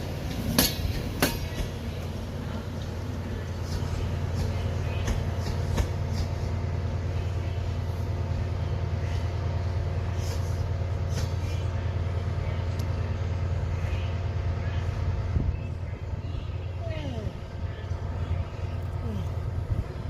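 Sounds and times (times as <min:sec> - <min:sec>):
train humming: 0:00.0 - 0:20.0.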